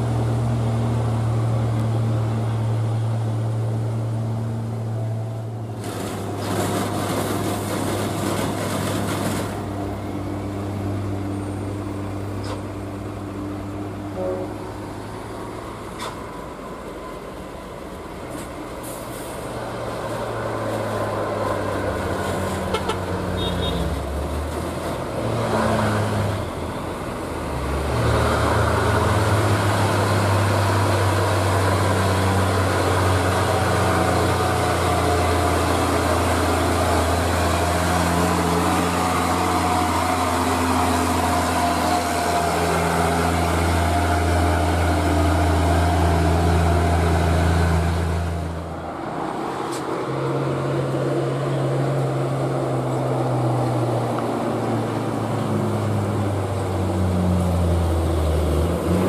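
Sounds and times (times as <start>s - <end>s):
truck diesel engine pulling hard: 0.0s - 59.0s.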